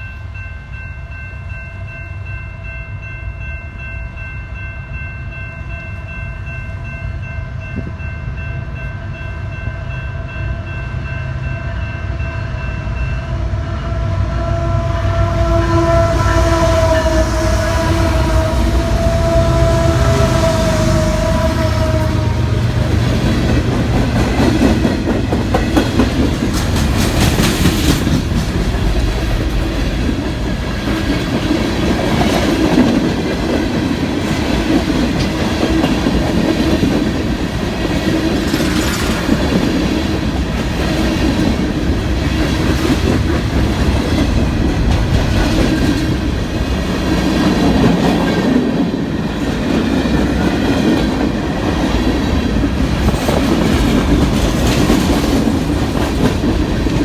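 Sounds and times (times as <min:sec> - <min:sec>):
train cars rumbling past: 0:03.4 - 0:57.0.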